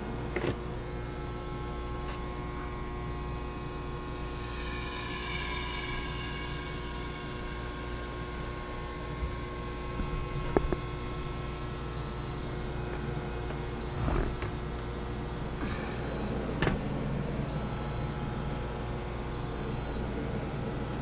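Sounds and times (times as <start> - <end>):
refrigeration machinery hum: 0.0 - 21.0.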